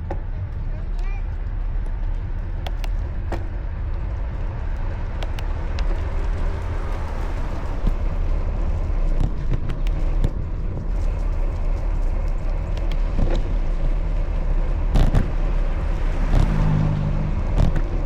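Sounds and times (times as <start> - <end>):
bicycle clicks and rattles: 0.0 - 18.0
road and traffic hiss: 0.0 - 18.0
wind rumble on microphone: 0.0 - 18.0.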